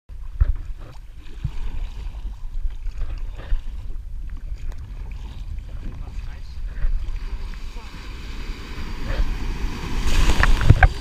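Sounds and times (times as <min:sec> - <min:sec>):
paddle splashing water: 0:00.1 - 0:11.0
steady low rumble: 0:00.1 - 0:11.0.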